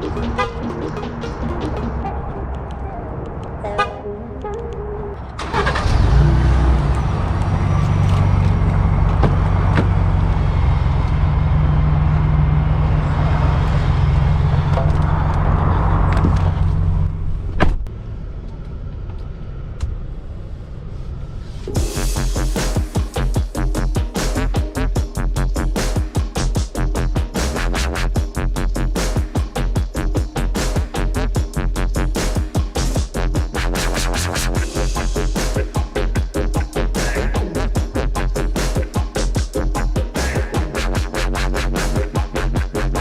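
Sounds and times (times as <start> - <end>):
vehicle engine droning: 0.0 - 43.0.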